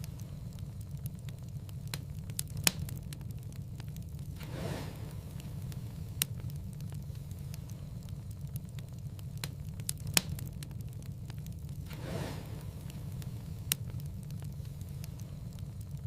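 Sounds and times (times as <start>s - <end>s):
fire crackling and popping: 0.0s - 16.0s
soft rush of flame: 0.0s - 16.0s
wood fire burning: 0.0s - 16.0s.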